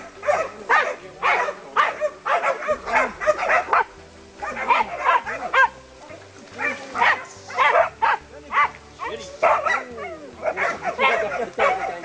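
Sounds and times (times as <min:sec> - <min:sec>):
dogs barking and yelping: 0:00.0 - 0:12.0.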